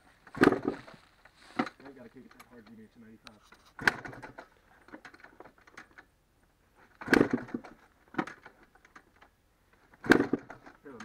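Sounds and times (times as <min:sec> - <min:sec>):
dirt bike kickstarter clunks: 0:00.2 - 0:02.8, 0:03.7 - 0:06.1, 0:06.8 - 0:11.0.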